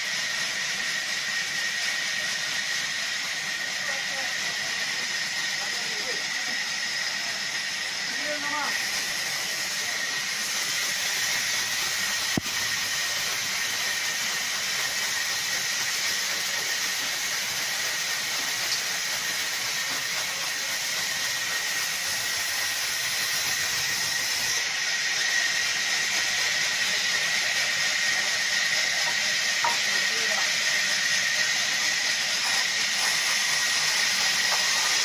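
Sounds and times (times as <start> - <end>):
band saw cutting log: 0.0 - 35.0.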